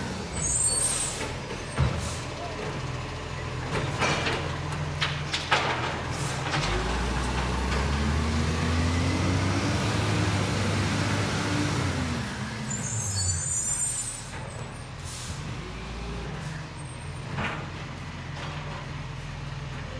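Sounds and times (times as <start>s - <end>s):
truck diesel engine pulling away: 0.0s - 19.9s.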